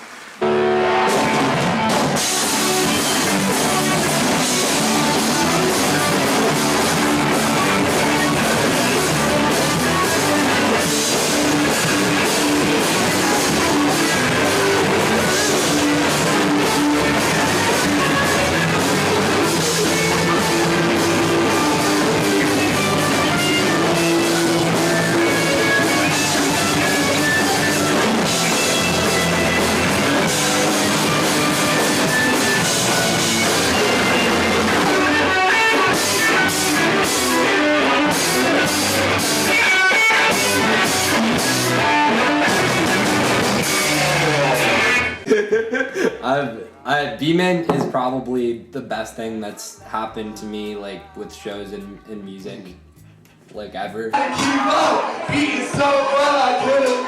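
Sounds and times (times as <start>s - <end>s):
loud rock music: 0.0s - 45.3s, 52.7s - 57.0s.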